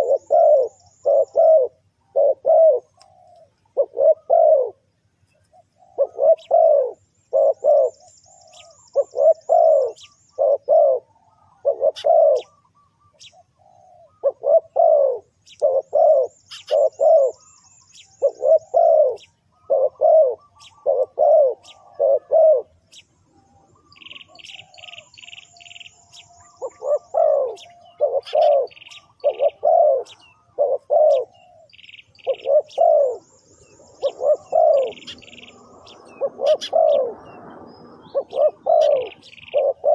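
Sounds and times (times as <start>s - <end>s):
dove cooing: 0.0s - 39.9s
high chirps of small birds: 0.0s - 39.9s.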